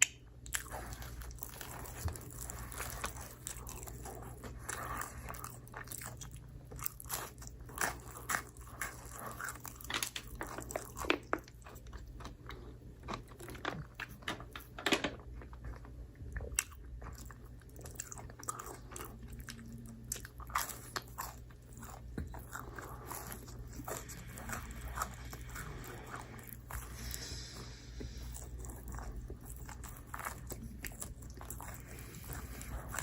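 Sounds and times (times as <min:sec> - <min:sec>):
crunchy chewing of pizza: 0:00.0 - 0:33.0.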